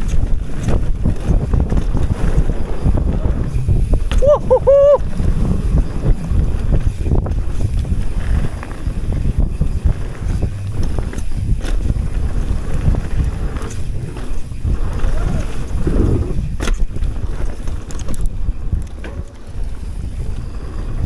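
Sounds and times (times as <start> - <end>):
bike rattling over bumps: 0.0 - 21.0
bike tyres rolling over dirt: 0.0 - 21.0
wind buffeting microphone: 0.0 - 21.0.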